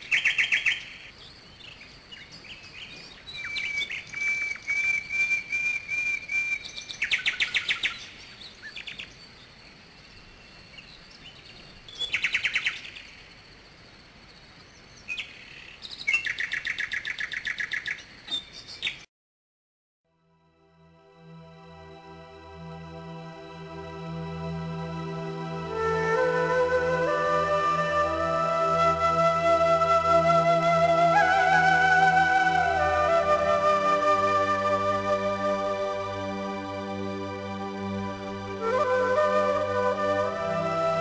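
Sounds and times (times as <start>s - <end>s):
songbird singing: 0.0s - 19.1s, 21.0s - 41.0s.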